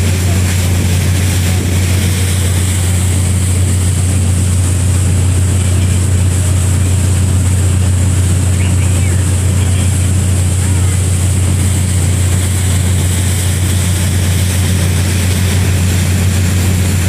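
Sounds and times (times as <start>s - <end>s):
ferry engines droning: 0.0s - 17.0s.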